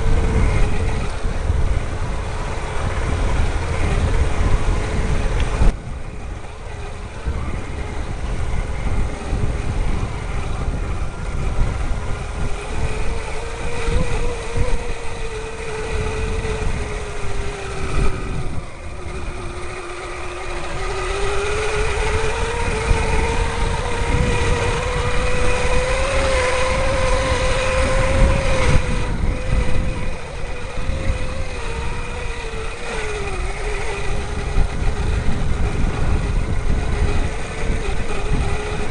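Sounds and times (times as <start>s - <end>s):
electric bike motor whining: 0.0s - 38.9s.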